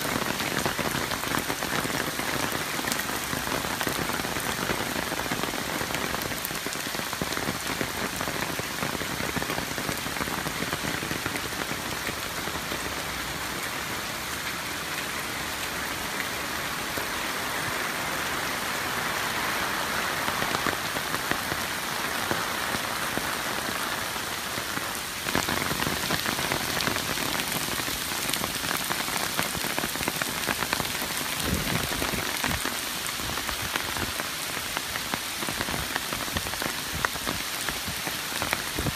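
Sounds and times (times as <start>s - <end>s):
heavy rain on wet pavement: 0.0s - 38.9s.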